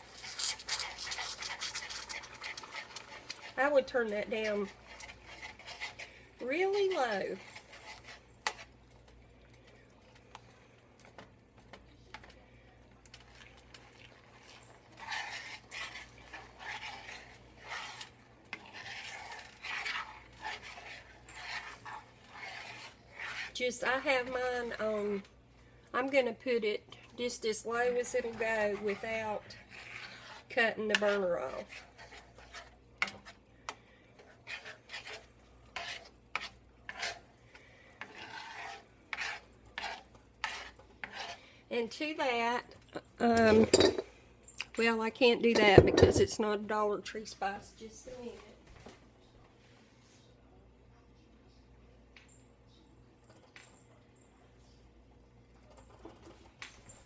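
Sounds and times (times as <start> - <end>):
spoon scraping in a pot: 0.0 - 46.5.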